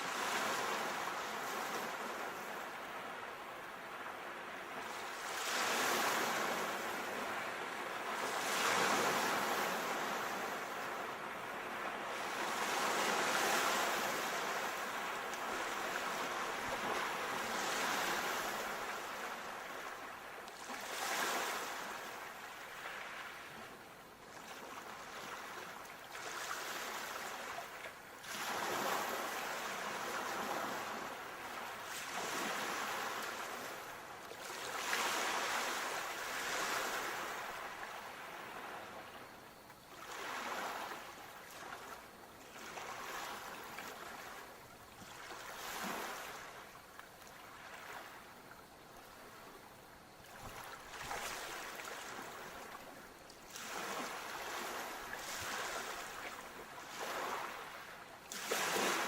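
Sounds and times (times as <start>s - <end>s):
sea waves breaking on shore: 0.0s - 59.0s
wind: 0.0s - 59.0s.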